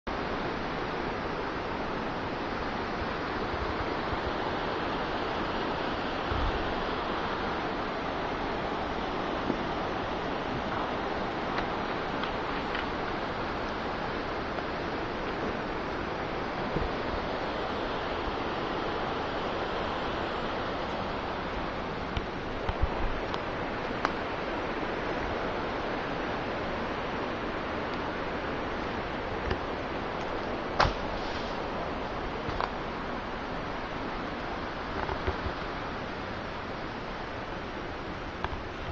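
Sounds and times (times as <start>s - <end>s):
steady rushing noise: 0.1s - 38.9s.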